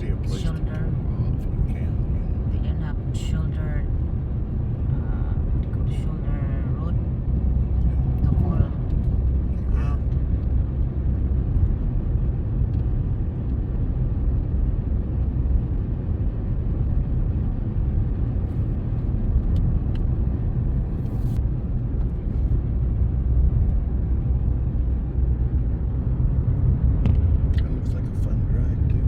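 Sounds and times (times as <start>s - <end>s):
road and engine rumble in vehicle: 0.0s - 29.0s.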